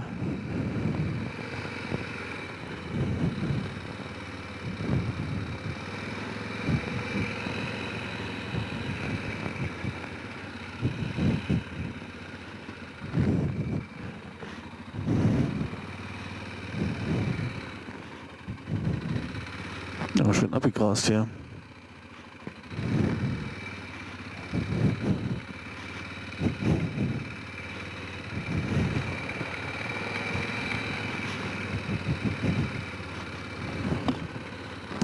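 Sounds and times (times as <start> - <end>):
quad engine idling: 0.0 - 35.0.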